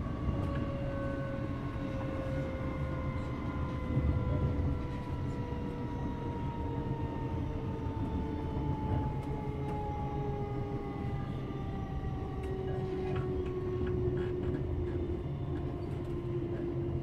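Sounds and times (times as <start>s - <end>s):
wheels rumbling on track: 0.0s - 17.0s.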